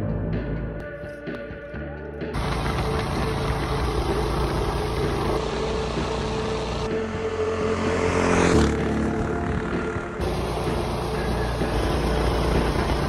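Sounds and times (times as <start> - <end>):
motorcycle engine running: 2.3 - 13.0
motorcycle passing by: 2.4 - 13.0.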